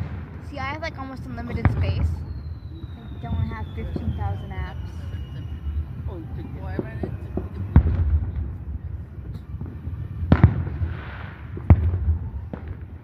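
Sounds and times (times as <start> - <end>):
fireworks bangs: 0.0 - 13.0
fireworks crackle: 0.0 - 13.0
steady low rumble: 0.0 - 13.0.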